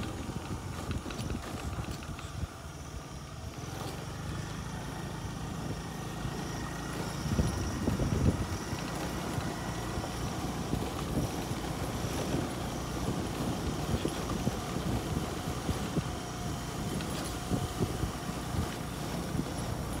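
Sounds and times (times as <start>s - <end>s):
vehicle rumbling on rough road: 0.0s - 20.0s.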